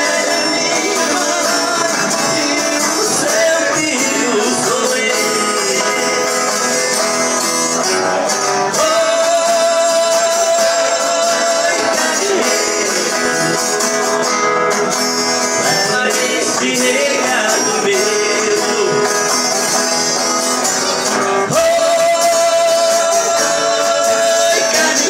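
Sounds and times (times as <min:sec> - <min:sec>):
man singing: 0:00.0 - 0:14.2, 0:15.4 - 0:19.8, 0:21.1 - 0:25.0
viola and acoustic guitar: 0:00.0 - 0:25.0.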